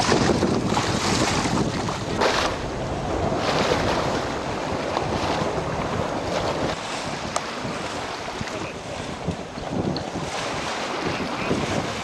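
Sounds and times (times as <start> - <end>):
water washing along hull: 0.0 - 12.0
wind buffeting microphone: 0.0 - 12.0.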